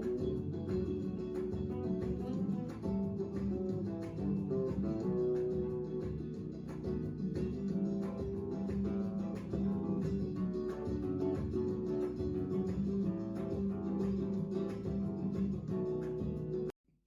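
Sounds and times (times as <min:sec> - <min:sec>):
acoustic guitar playing: 0:00.0 - 0:16.7.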